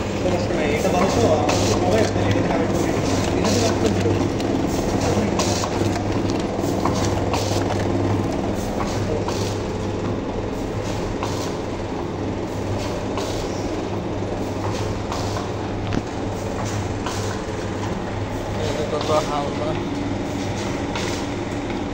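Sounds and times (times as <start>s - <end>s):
motor hum: 0.0s - 21.9s.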